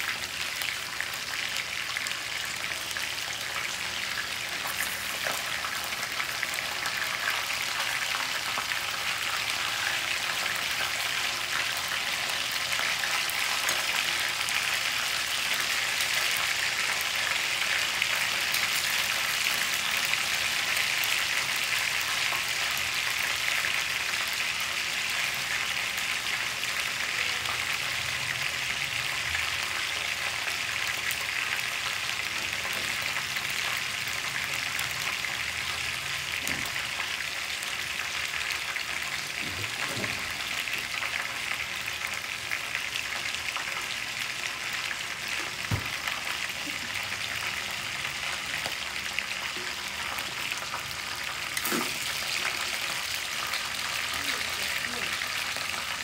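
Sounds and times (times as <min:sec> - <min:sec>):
wings sizzling in oil: 0:00.0 - 0:56.0.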